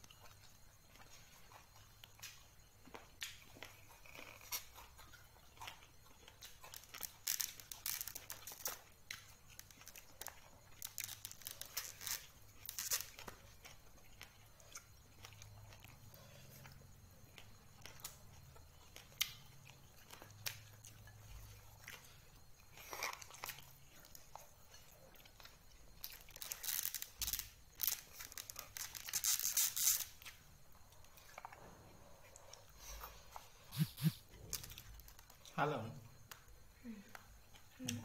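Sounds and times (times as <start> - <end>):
eating and handling food in bowl: 0.0 - 38.0
faint low hum: 0.0 - 38.0.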